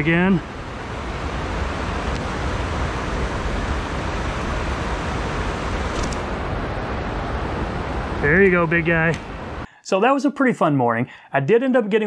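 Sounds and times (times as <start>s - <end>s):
stream water rushing: 0.0s - 9.7s.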